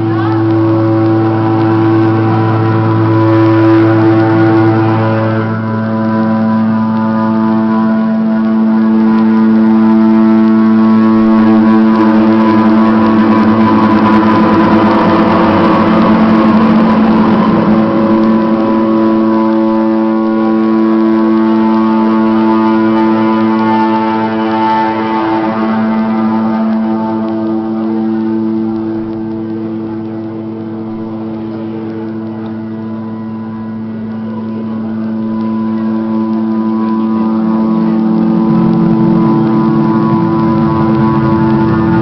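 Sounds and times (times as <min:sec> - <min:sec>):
droning music of held tones: 0:00.0 - 0:42.0
rushing noisy swell: 0:00.0 - 0:42.0.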